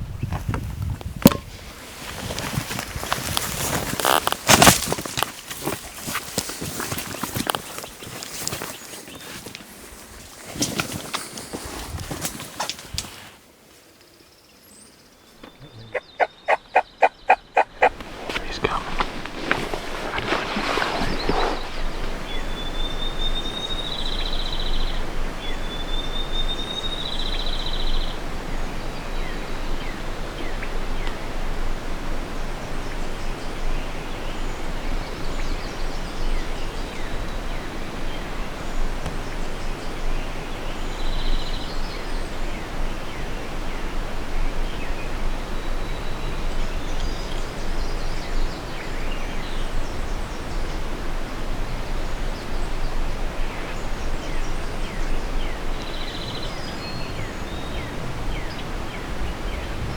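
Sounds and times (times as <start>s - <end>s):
rustling outdoor noise: 0.0s - 59.9s.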